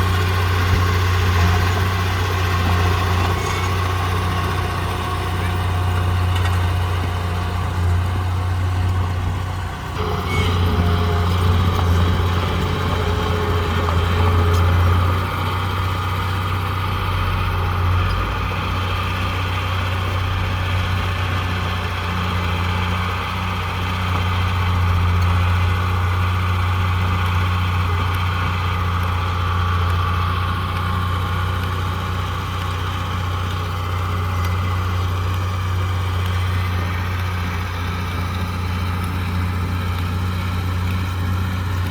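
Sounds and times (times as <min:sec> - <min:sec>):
diesel engine humming: 0:00.0 - 0:41.9.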